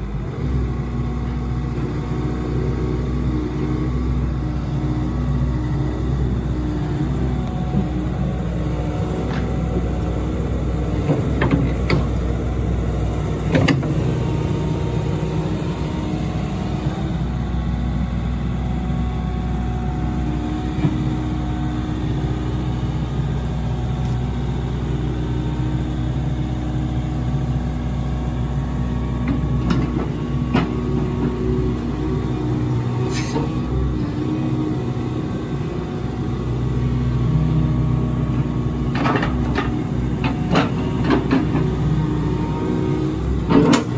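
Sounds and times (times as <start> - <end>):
excavator diesel engine running: 0.0 - 43.9
hydraulics whining: 1.6 - 43.9.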